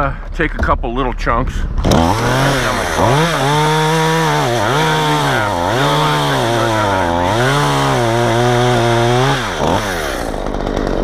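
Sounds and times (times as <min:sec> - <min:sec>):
chainsaw cutting wood: 0:01.8 - 0:11.0.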